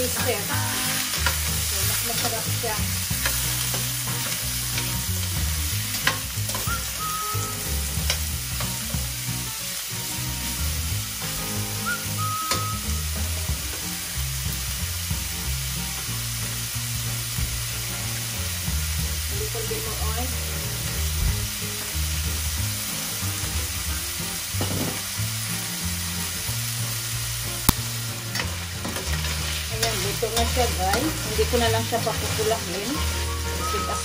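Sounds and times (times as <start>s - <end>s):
pork sizzling in a pan: 0.0s - 34.0s.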